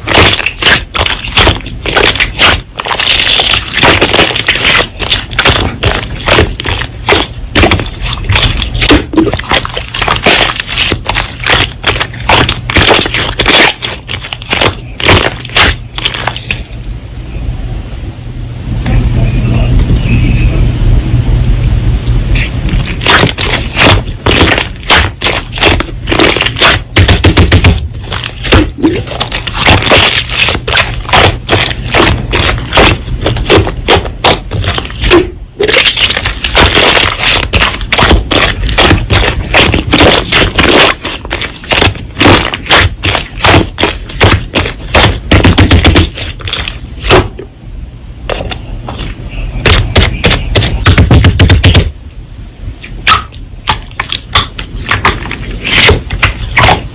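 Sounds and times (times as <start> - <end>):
slime popping and crackling: 0.0 - 16.7, 22.4 - 47.3, 48.3 - 51.9, 53.1 - 56.9.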